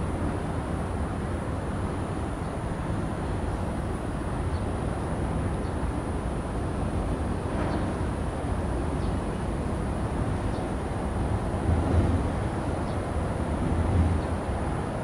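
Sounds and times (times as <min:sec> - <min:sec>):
low outdoor rumble by water: 0:00.0 - 0:15.0.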